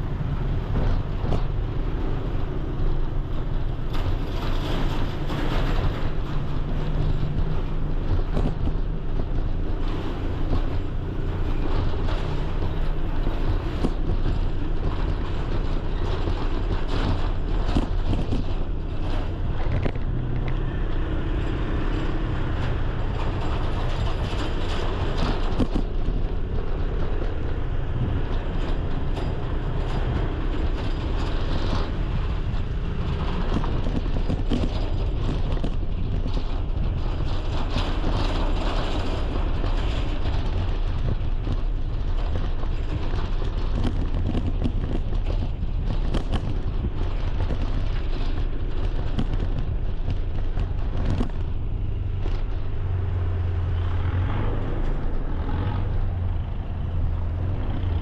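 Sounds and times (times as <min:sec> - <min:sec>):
vehicle and road noise rumble: 0:00.0 - 0:58.0.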